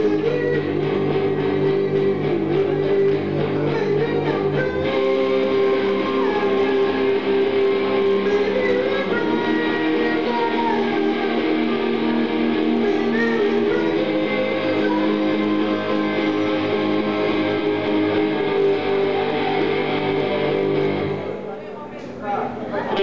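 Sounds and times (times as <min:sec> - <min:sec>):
electric guitar chords: 0:00.0 - 0:21.5.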